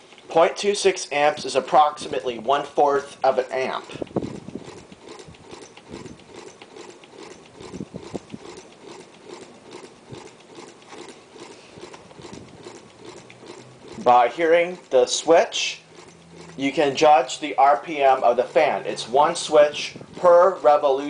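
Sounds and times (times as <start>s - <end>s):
motor switch clicking rapidly: 0.0s - 21.0s.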